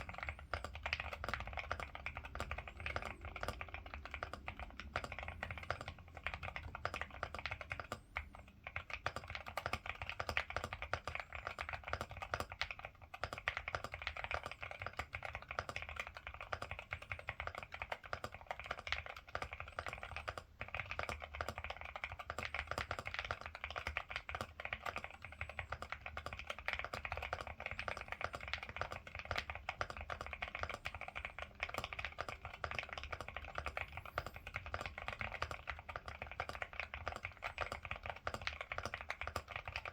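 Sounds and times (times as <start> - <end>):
keystroke clacks: 0.0 - 39.9
mechanical keyboard typing: 0.0 - 39.9.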